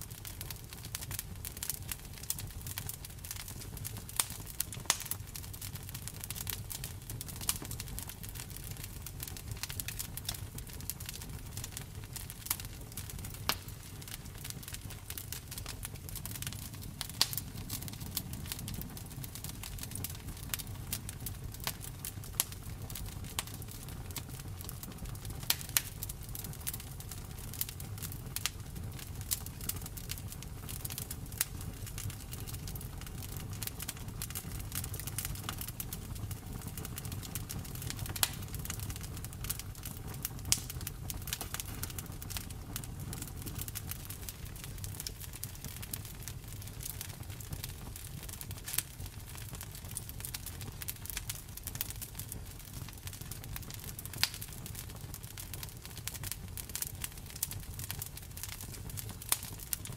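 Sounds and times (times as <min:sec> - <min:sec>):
campfire wood crackling and popping: 0:00.0 - 0:59.9.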